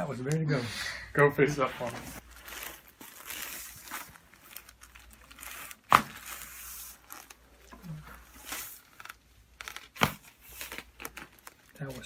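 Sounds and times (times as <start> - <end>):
rustling and crinkling on a table: 1.4 - 12.0.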